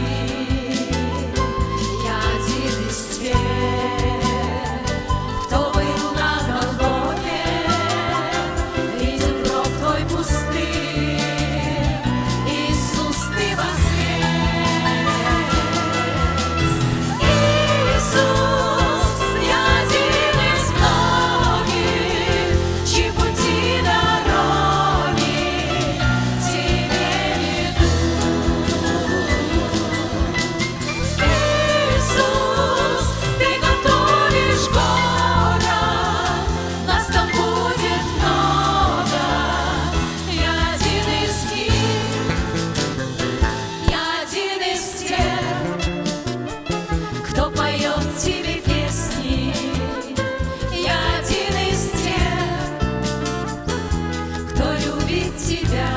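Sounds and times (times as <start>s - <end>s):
group singing worship song: 0.0s - 55.9s
instrumental accompaniment with bass: 0.0s - 55.9s.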